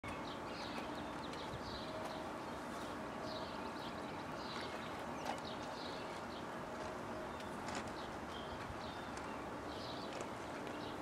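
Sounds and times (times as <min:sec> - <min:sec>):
birds chirping: 0:00.0 - 0:11.0
faint outdoor background noise: 0:00.0 - 0:11.0.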